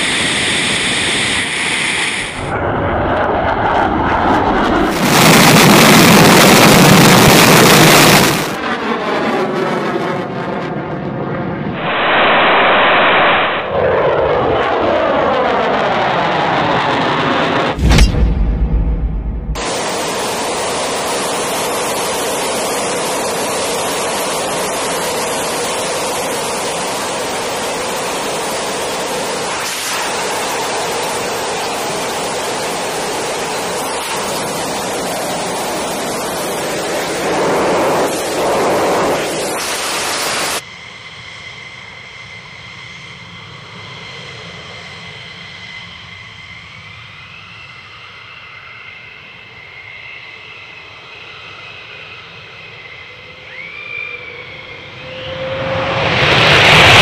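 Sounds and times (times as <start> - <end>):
jet engine afterburner roar: 0.0 - 57.0
jet engine high whine: 0.0 - 57.0.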